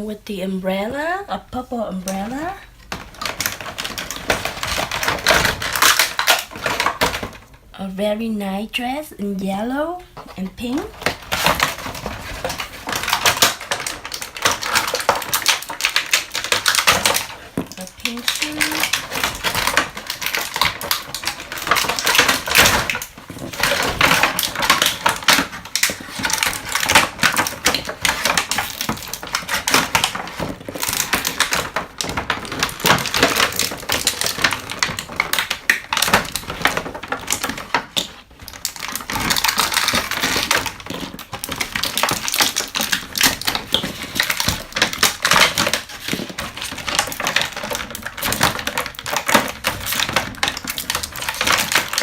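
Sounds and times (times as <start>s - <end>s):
plastic packaging crinkling: 2.0s - 7.7s, 10.1s - 52.0s.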